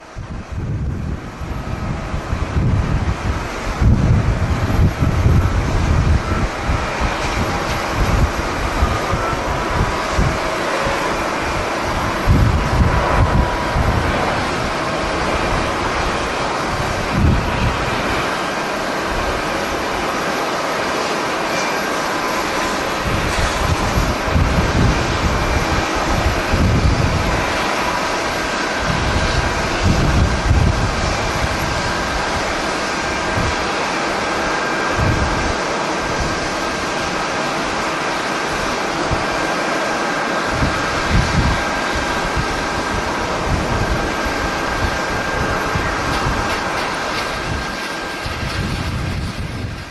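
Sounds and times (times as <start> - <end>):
broad rushing noise: 0.0 - 49.9
wind buffeting microphone: 0.0 - 49.9.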